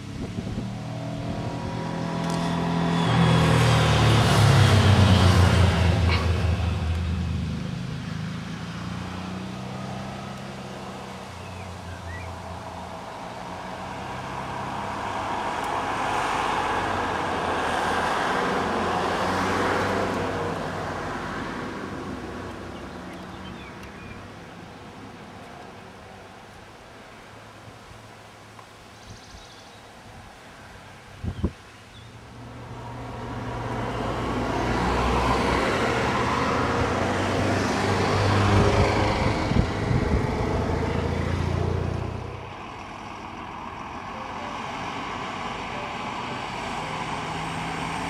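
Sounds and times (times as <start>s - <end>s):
vehicles passing: 0.0s - 48.0s.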